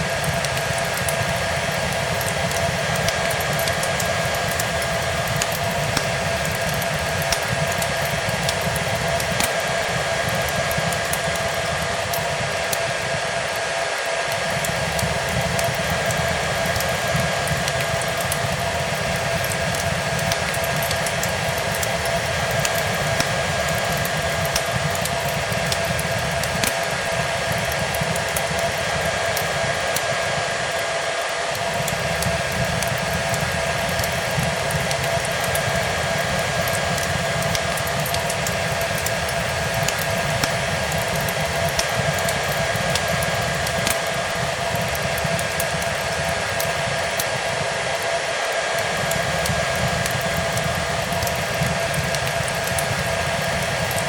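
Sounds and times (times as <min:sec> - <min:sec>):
hair dryer blowing: 0:00.0 - 0:54.0
wood fire crackling: 0:00.0 - 0:54.0.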